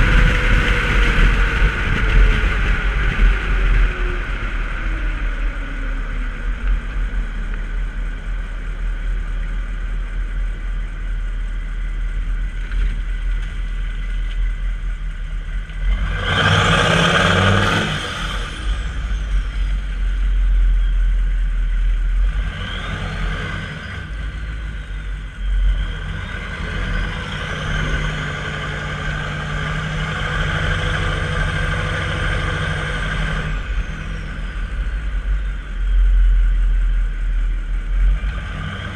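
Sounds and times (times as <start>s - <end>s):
diesel engine driving: 0.0s - 38.9s.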